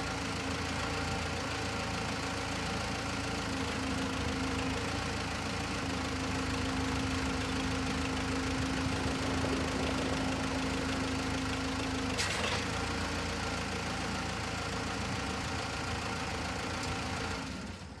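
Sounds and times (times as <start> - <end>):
backhoe engine idling: 0.0 - 18.0.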